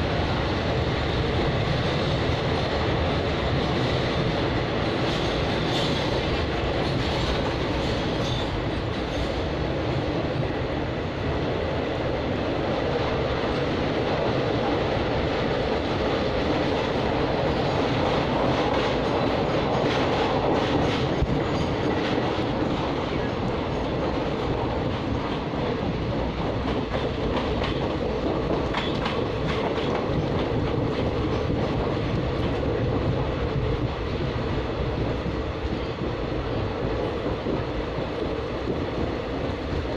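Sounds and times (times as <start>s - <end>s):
train rumbling inside coach: 0.0s - 39.9s.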